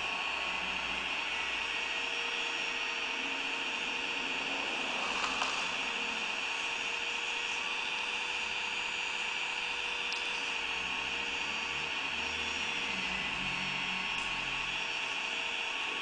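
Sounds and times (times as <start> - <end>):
small electric motors whining: 0.0 - 16.0.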